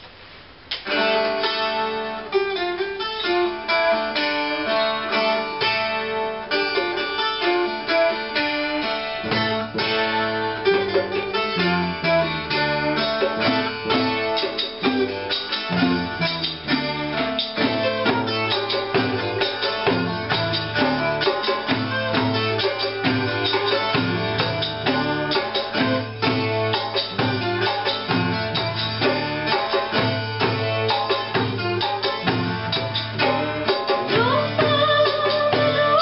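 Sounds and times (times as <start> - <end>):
plucked lute fast notes: 0.9 - 36.0
bass guitar: 3.4 - 36.0.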